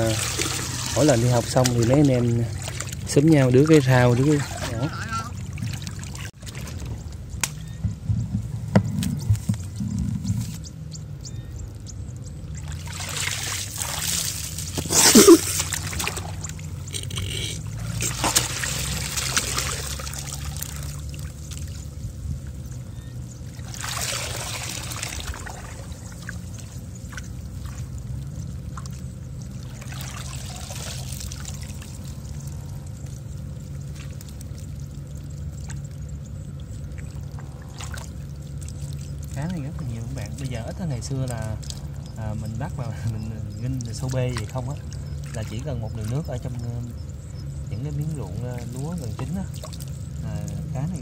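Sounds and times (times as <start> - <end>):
muddy water sloshing: 0.0 - 51.0
steady low hum: 0.0 - 51.0.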